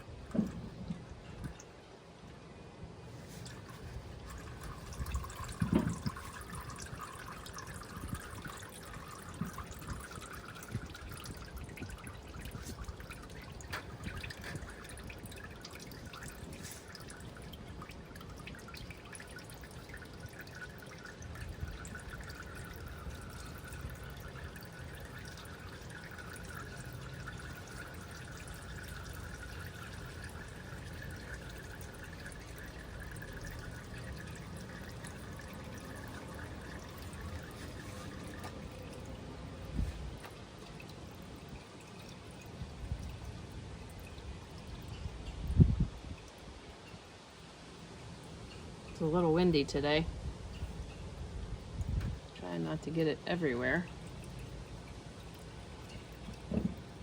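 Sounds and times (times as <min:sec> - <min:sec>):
oil trickling into a pan: 0:00.0 - 0:57.0.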